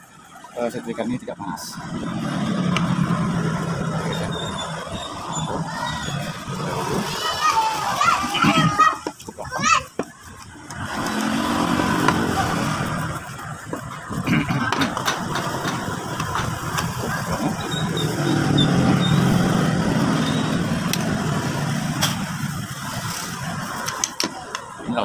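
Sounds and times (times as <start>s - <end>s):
low engine rumble: 1.6s - 8.8s, 10.4s - 24.8s.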